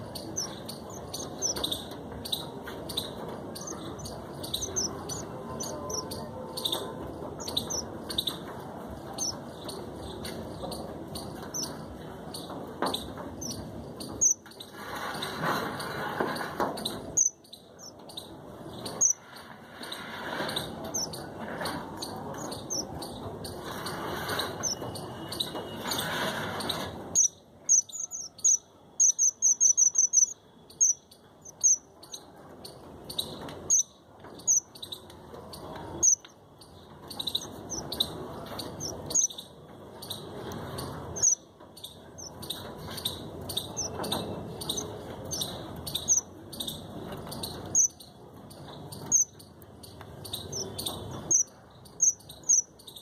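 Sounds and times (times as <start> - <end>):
small birds chirping: 0.0 - 53.0
steady background noise: 0.0 - 53.0.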